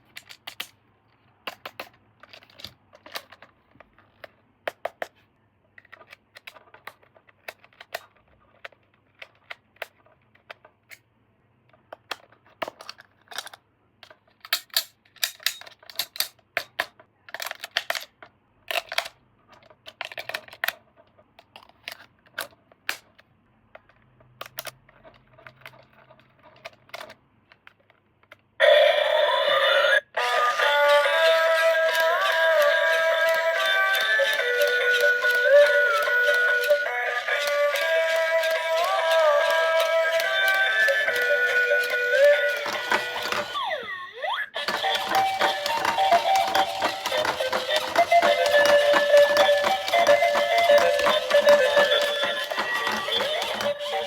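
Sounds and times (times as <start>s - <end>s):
toy packaging clicks and rustles: 0.0s - 28.6s, 30.2s - 43.9s, 44.5s - 54.0s.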